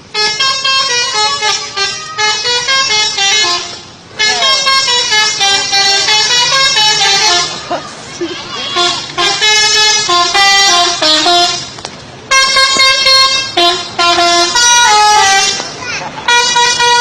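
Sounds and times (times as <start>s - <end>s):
musical air horn tooting tune: 0.0s - 17.0s.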